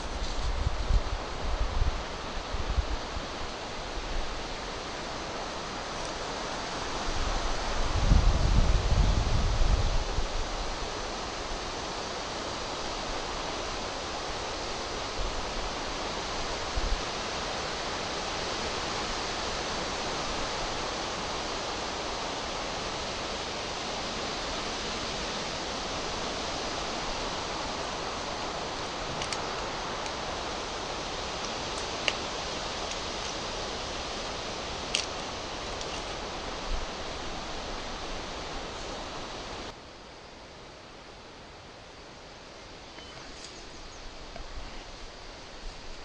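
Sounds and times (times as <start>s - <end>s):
steady hiss: 0.0s - 46.0s.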